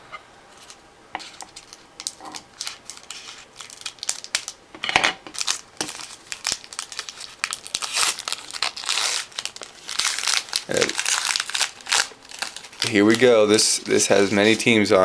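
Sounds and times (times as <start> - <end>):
plastic wrapper crinkling and tearing: 1.2 - 4.6, 5.3 - 14.9.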